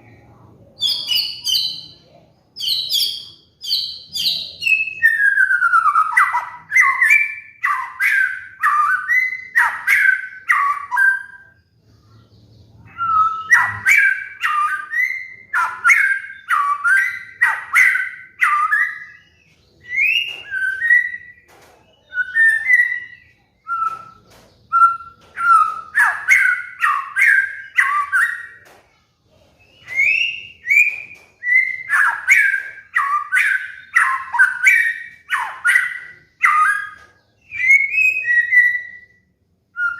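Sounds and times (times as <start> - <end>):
bird singing whistled notes: 0.8 - 28.6, 29.6 - 39.9.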